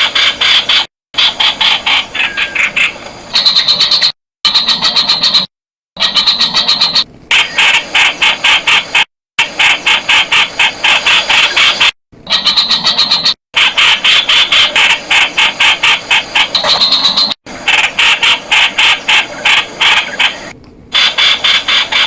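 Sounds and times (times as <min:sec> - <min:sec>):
bird chattering sharp notes: 0:00.0 - 0:09.0, 0:09.7 - 0:22.0.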